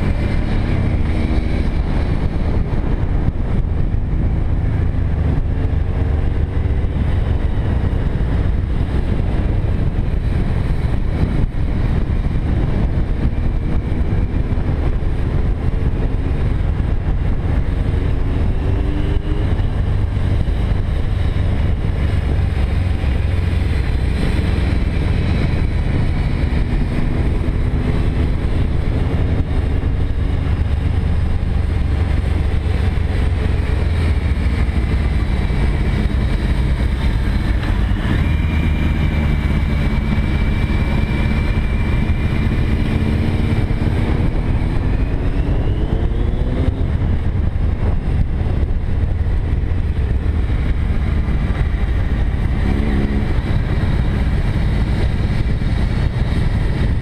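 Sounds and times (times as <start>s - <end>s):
motorcycle engine: 0.0s - 57.0s
wind rumble over microphone: 0.0s - 57.0s.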